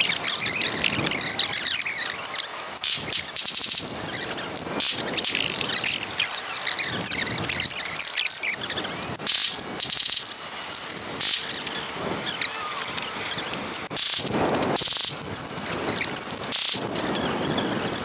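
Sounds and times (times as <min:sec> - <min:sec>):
sped-up squeaks chirps and clicks: 0:00.0 - 0:18.0.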